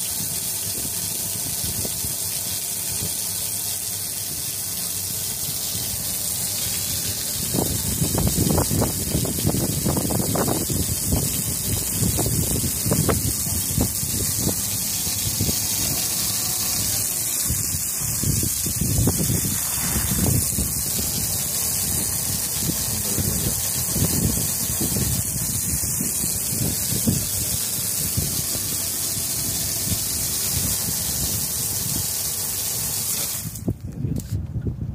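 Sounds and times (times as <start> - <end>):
water spraying onto deck: 0.0 - 33.9
wind on microphone: 5.4 - 32.4, 33.2 - 34.9.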